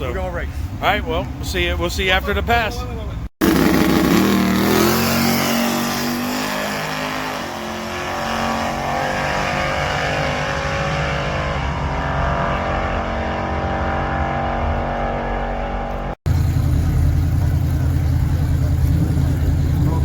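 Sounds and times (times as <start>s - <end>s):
drag racing car accelerating: 3.4s - 20.0s.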